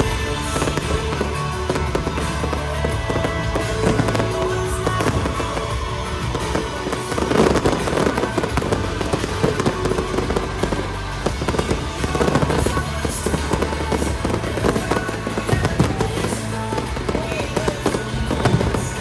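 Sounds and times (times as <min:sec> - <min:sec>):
fireworks bangs and crackles: 0:00.0 - 0:19.0
loud music: 0:00.0 - 0:19.0.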